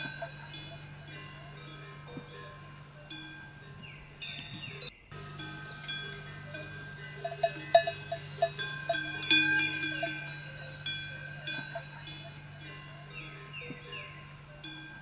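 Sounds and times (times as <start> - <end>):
metal bells clinking: 0.0 - 15.0
steady low hum: 0.0 - 15.0.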